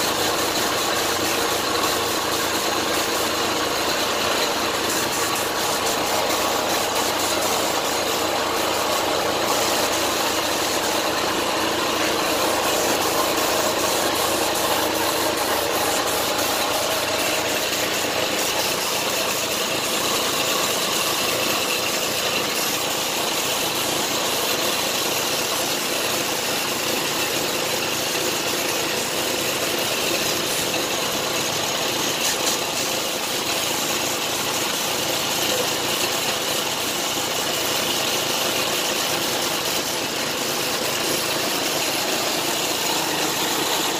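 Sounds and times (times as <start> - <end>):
air compressor running: 0.0 - 43.9
spray gun hissing: 0.0 - 43.9.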